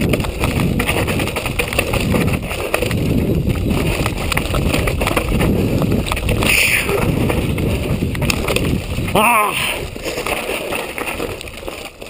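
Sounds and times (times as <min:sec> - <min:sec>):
wind buffeting microphone: 0:00.0 - 0:11.8
bike knocking: 0:00.0 - 0:12.0
bike tyres crunching over gravel: 0:00.0 - 0:12.0.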